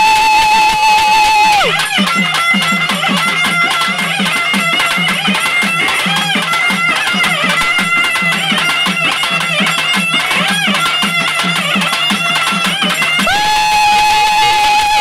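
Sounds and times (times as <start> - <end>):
reedy wind instrument melody: 0.0 - 15.0
repeating drum beat: 0.0 - 15.0.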